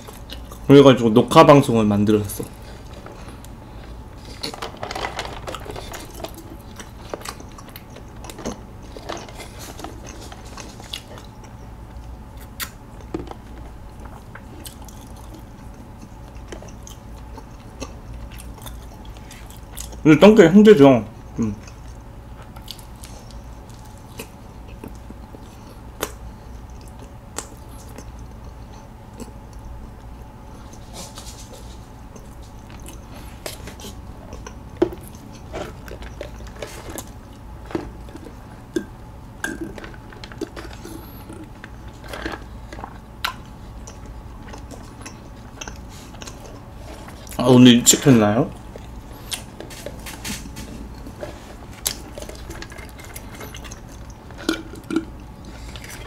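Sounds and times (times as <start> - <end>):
close-up chewing: 0.0 - 0.7, 2.3 - 20.0, 21.2 - 47.4, 48.5 - 56.0
low steady hum: 0.0 - 56.0.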